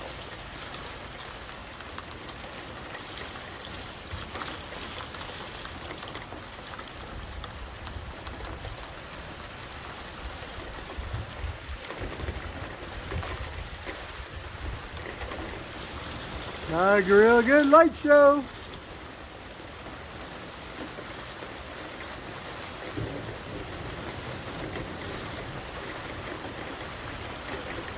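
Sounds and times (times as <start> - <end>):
rain pattering on a surface: 0.0 - 27.9.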